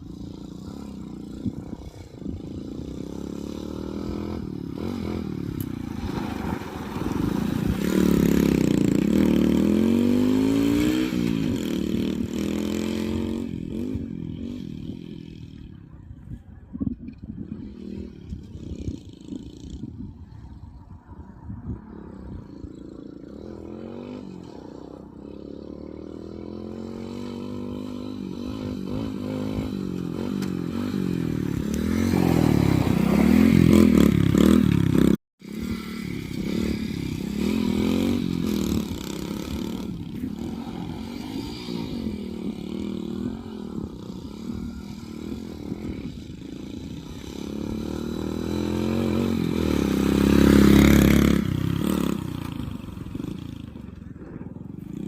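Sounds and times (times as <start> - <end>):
motorcycle engine revving: 0.0 - 16.0, 16.9 - 55.0.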